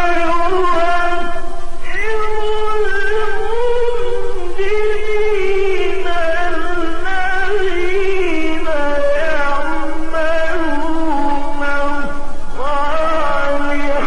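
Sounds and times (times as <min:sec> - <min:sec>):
person chanting slowly: 0:00.0 - 0:14.0.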